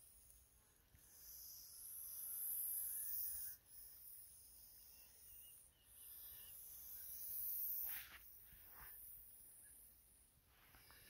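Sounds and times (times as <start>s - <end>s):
snake hissing: 0.0s - 11.0s.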